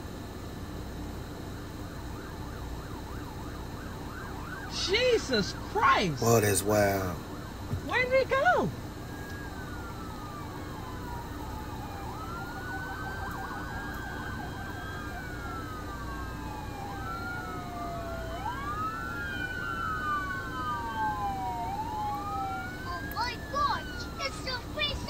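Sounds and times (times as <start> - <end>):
low rumble of traffic: 0.0 - 25.0
police sirens wailing: 1.8 - 25.0.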